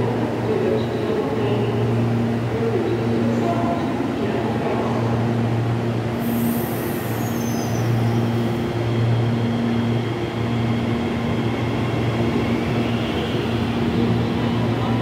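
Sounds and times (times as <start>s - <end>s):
electric train hum: 0.0s - 15.0s
wheels rumbling on rail: 0.0s - 15.0s.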